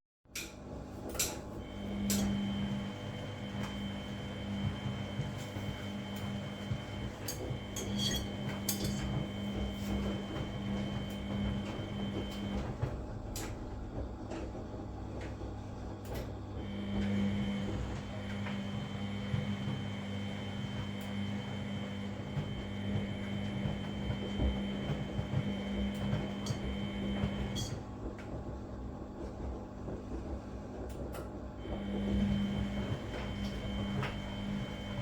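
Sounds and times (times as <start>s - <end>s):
washing machine running: 0.3s - 35.0s.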